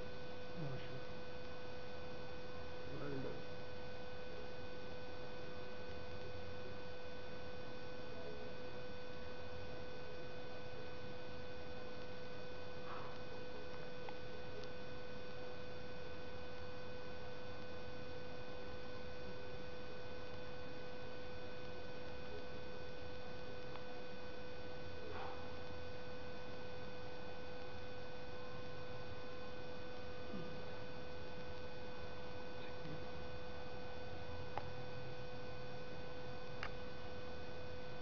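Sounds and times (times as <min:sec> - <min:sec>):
electrical whine and hiss: 0:00.0 - 0:38.0.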